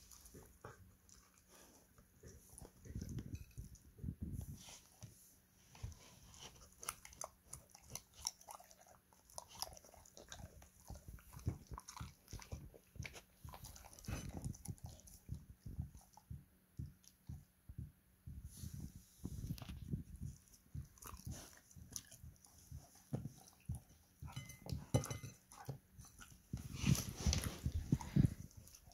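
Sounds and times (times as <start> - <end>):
dog chewing and licking: 0.0 - 5.1, 5.8 - 17.5, 18.6 - 28.9.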